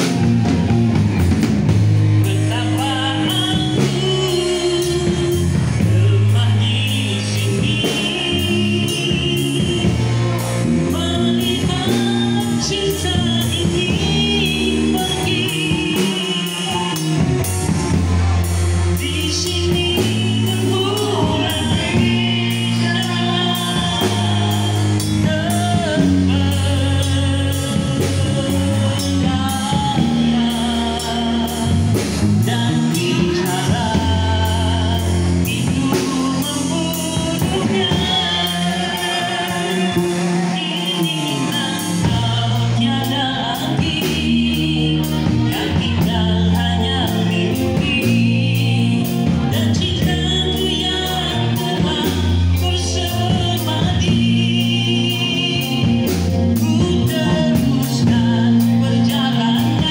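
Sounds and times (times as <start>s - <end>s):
drum kit with cymbals: 0.0s - 59.9s
electric guitar: 0.0s - 59.9s
man singing into microphone: 2.0s - 59.9s.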